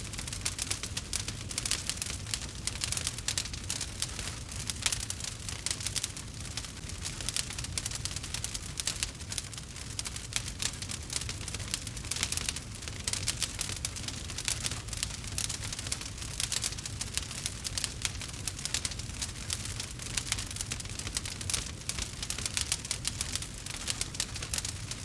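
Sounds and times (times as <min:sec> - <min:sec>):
fire crackling: 0:00.0 - 0:25.0
low fire rumble: 0:00.0 - 0:25.0.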